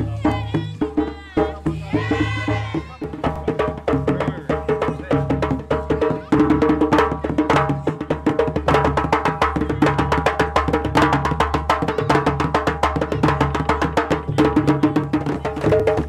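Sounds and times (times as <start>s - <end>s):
fast hand drumming: 0.0s - 16.0s.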